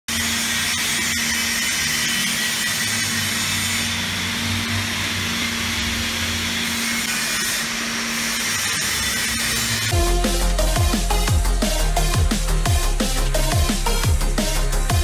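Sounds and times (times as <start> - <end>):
machine hiss and hum: 0.1 - 15.0.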